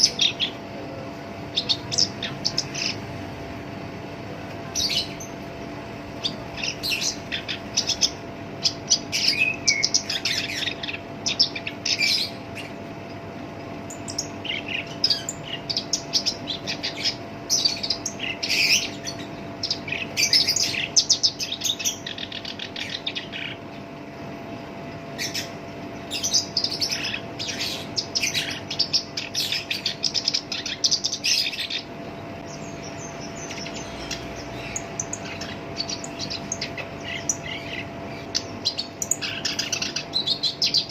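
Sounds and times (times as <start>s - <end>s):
faint steady hum: 0.0s - 40.9s
warbler singing harsh chattering: 0.0s - 40.9s.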